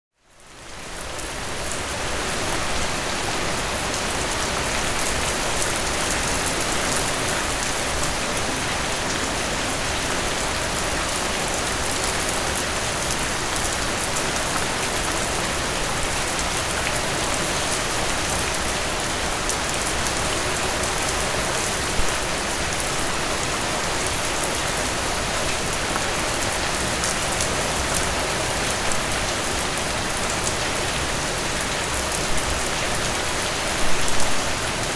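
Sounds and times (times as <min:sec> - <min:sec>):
rain pattering: 0:00.4 - 0:34.9.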